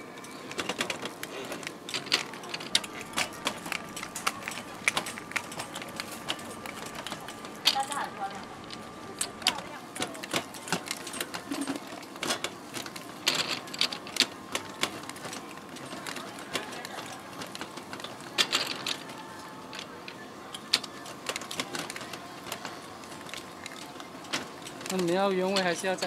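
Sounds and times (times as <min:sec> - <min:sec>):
hand-cranked roller press clattering: 0:00.4 - 0:26.0.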